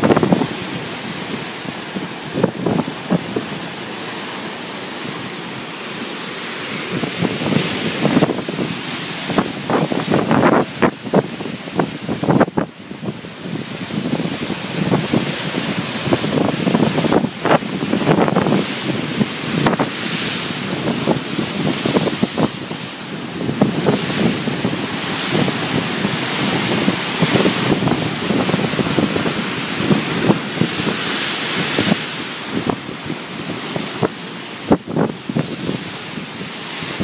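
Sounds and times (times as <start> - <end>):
ocean surf washing: 0.0 - 37.0
wind buffeting microphone: 0.0 - 37.0.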